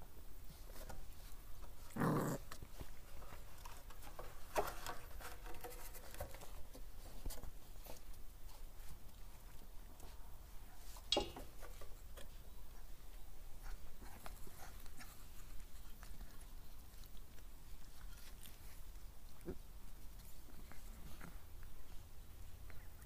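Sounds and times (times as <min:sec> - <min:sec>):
puppies scuffling: 0:00.1 - 0:23.0.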